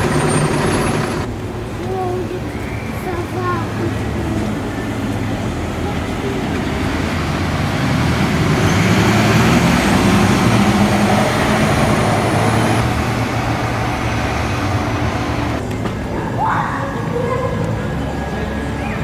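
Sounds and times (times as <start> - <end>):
bus engine passing: 0.0 - 19.0
road traffic noise: 0.0 - 19.0.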